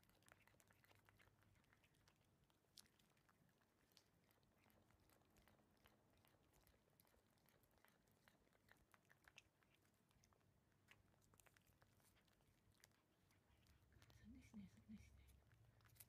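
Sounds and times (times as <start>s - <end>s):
cats licking and lip smacking: 0.0s - 16.0s.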